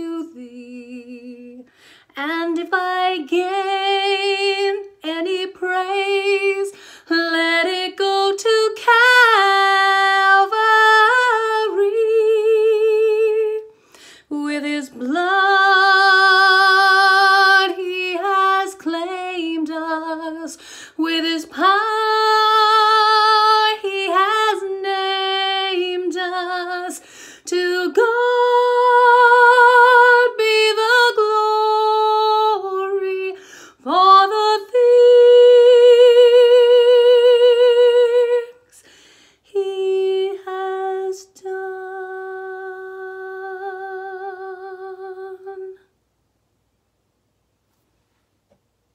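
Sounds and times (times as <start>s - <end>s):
woman singing unaccompanied: 0.0s - 38.8s, 39.4s - 45.9s.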